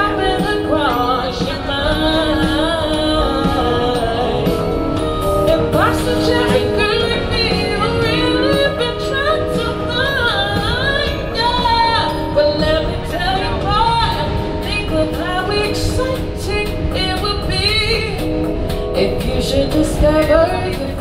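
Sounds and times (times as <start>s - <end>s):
sustained accompanying chords: 0.0s - 21.0s
woman singing into microphone: 0.0s - 21.0s
low rumble: 0.8s - 20.8s.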